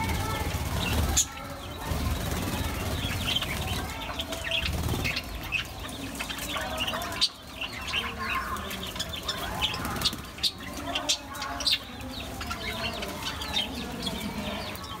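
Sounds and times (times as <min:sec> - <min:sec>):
wings flapping: 0:00.0 - 0:14.4
budgerigars chirping: 0:00.0 - 0:15.0.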